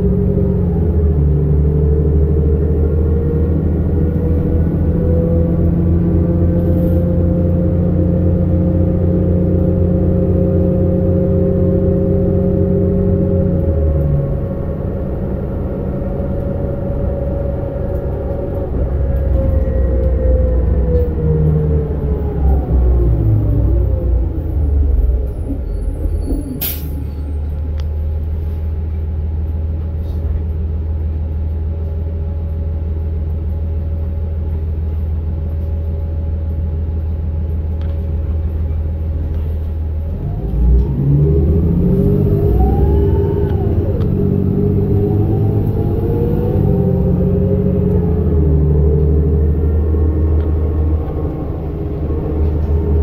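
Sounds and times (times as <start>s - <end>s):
transmission whine: 0.0s - 28.4s, 35.6s - 53.0s
bus engine: 0.0s - 53.0s.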